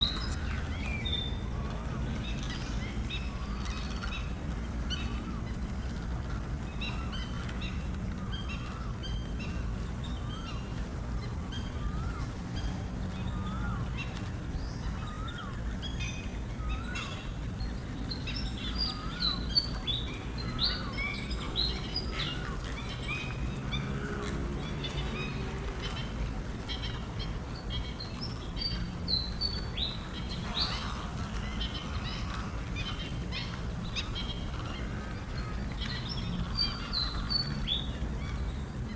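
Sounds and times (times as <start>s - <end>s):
birds calling and chirping: 0.0s - 38.9s.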